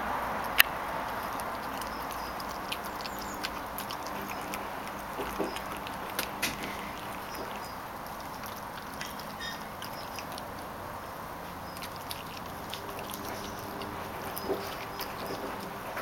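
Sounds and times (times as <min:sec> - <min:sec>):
outdoor background noise: 0:00.0 - 0:16.0
puppy chewing bone: 0:00.0 - 0:16.0
teeth crunching on bone: 0:00.3 - 0:16.0.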